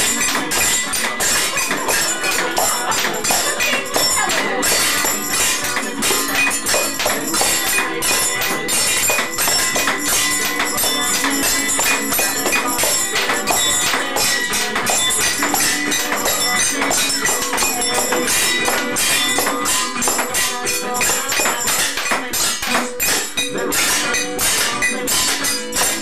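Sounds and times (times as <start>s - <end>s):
pots and pans struck in rhythm: 0.0s - 26.0s.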